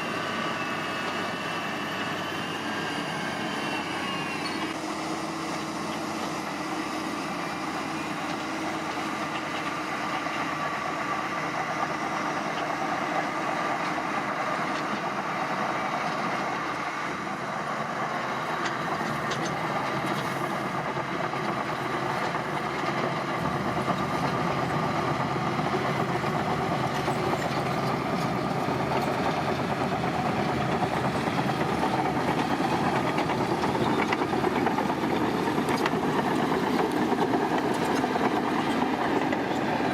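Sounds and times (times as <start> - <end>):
earthmoving machinery diesel engines: 0.0 - 39.9.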